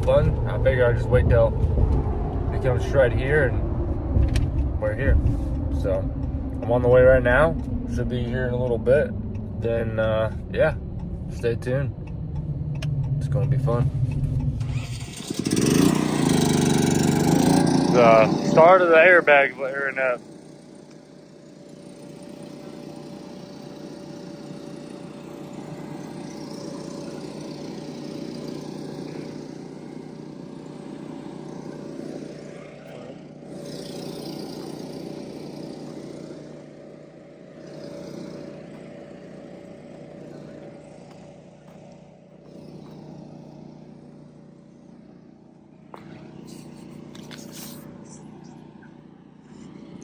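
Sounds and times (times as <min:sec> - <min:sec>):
blower fan droning: 0:00.0 - 0:50.0.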